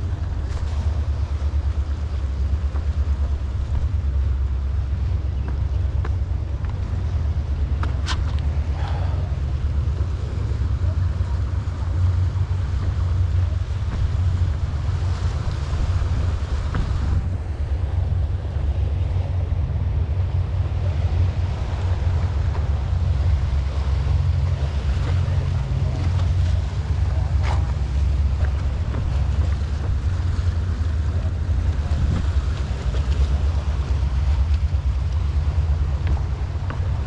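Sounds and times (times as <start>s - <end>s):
sea waves: 0.0s - 37.0s
wind buffeting microphone: 0.0s - 37.0s.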